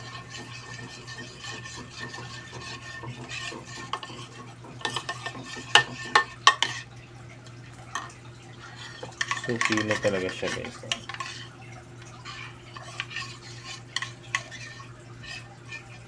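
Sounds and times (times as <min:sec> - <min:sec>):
metal spoon scraping plastic tub: 0:00.0 - 0:06.9, 0:07.9 - 0:16.0.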